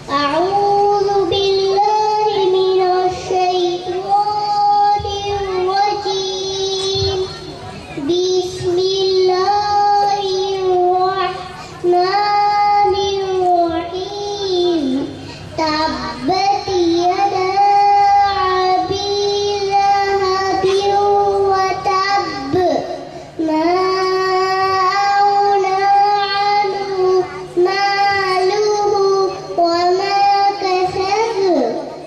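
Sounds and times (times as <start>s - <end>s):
girl chanting into a microphone: 0.0s - 32.0s.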